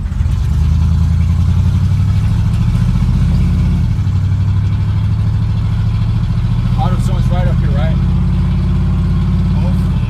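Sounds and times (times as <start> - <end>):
truck engine under load: 0.0 - 10.0.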